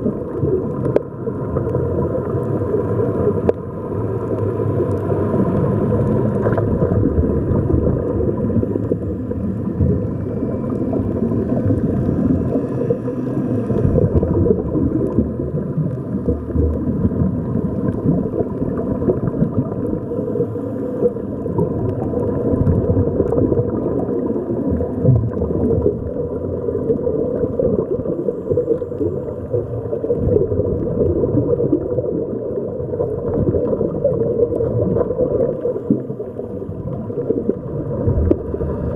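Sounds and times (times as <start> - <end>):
faint steady hum: 0.0 - 38.9
gurgling water: 0.0 - 38.9
muffled underwater rumble: 0.0 - 38.9.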